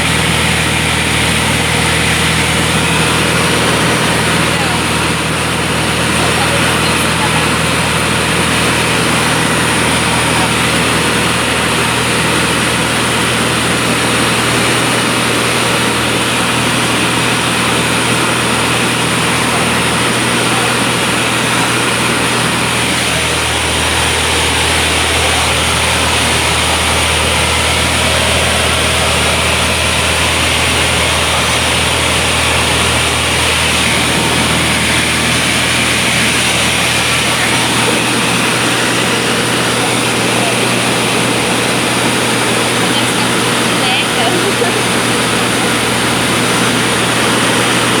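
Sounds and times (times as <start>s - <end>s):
airplane engine drone: 0.0s - 48.0s.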